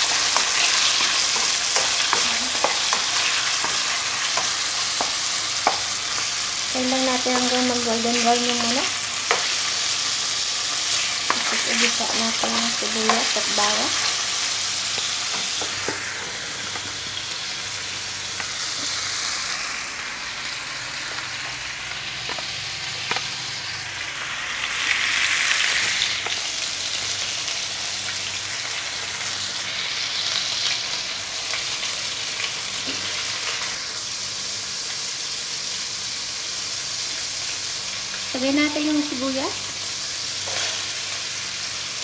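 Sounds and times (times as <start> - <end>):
chicken sizzling in hot oil: 0.0 - 42.0.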